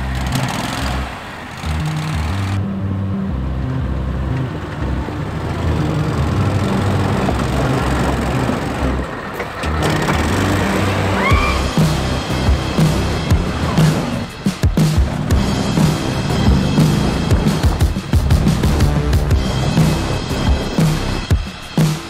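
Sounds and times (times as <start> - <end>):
background music with bass line: 0.0 - 9.1, 9.7 - 22.0
atv engine driving off-road: 0.0 - 21.3.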